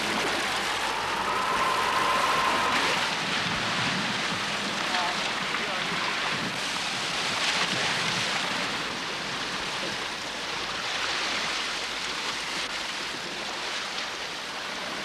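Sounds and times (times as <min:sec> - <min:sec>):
sea waves: 0:00.0 - 0:15.0
wind at sea: 0:00.0 - 0:15.0.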